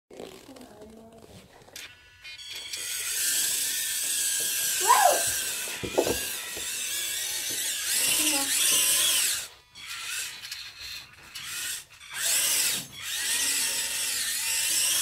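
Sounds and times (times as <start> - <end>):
toy electric motors whining: 0.1 - 15.0.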